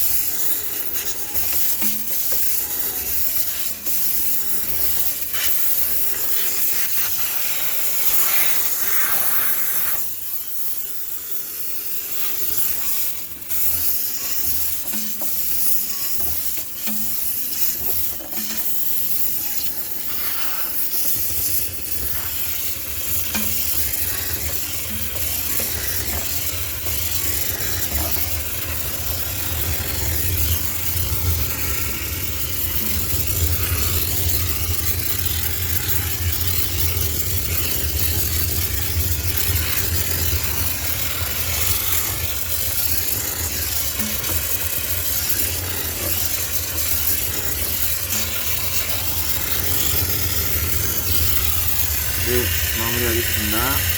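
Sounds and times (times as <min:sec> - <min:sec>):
steam cleaner hissing: 0:00.0 - 0:53.9.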